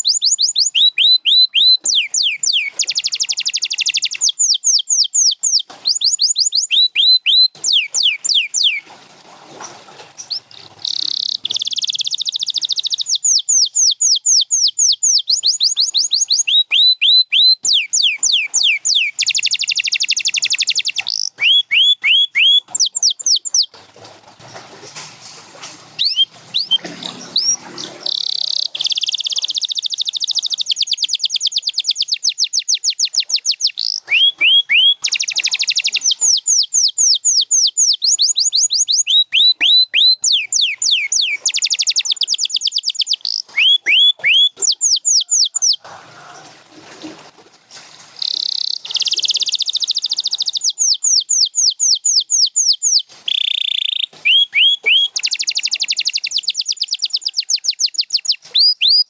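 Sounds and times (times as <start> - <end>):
canary singing: 0.0 - 8.8, 10.2 - 23.8, 26.0 - 46.5, 48.2 - 59.0.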